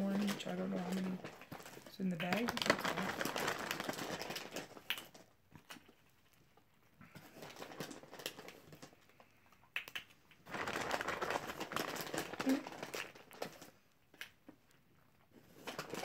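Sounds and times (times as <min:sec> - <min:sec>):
plastic eggs clicking: 0:00.0 - 0:06.6, 0:07.4 - 0:14.6
candy wrappers crinkling: 0:00.0 - 0:16.0.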